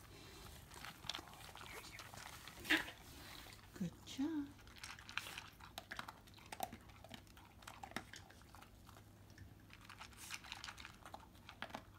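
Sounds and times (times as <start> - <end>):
dog crunching dry kibble: 0.0 - 11.9.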